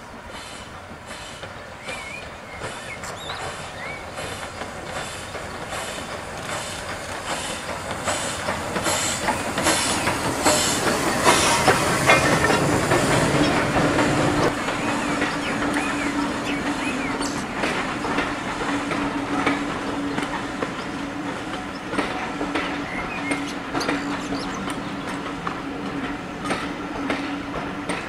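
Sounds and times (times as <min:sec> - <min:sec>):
steam locomotive exhaust beats: 0:00.0 - 0:28.0
train wheels clattering on rail joints: 0:00.0 - 0:28.0.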